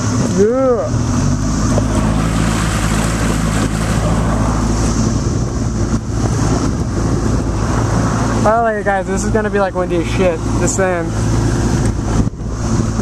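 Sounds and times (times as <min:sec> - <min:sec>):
outboard motor running: 0:00.0 - 0:13.0
wind noise on microphone: 0:00.0 - 0:13.0.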